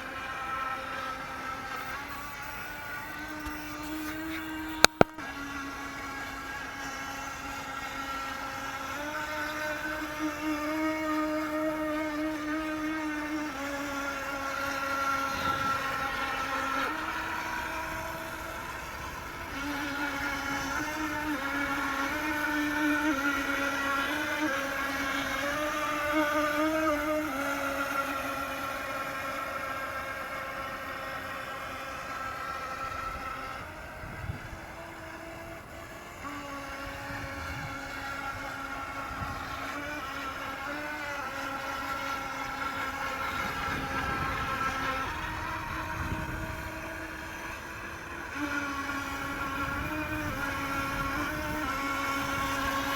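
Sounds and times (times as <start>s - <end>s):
toy boat electric motors whining: 0.0s - 52.9s.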